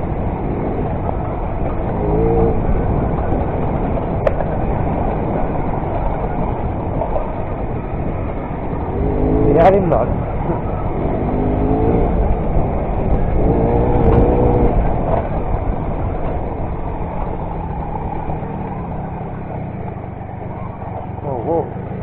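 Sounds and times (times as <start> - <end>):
low rumble: 0.0 - 22.0
moped engine running: 0.0 - 22.0.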